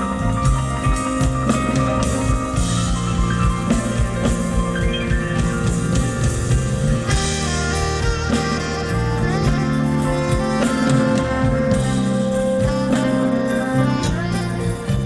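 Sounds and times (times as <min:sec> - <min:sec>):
steady drum beat: 0:00.0 - 0:15.0
sustained melodic notes: 0:00.0 - 0:15.0.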